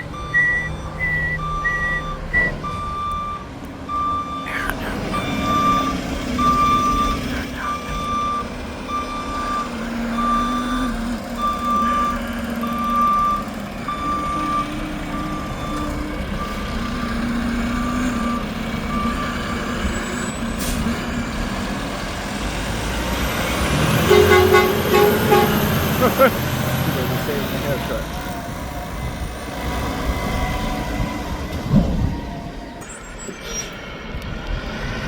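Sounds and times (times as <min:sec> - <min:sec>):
truck backup alarm beeping: 0:00.0 - 0:33.8
diesel engine running: 0:04.5 - 0:35.0.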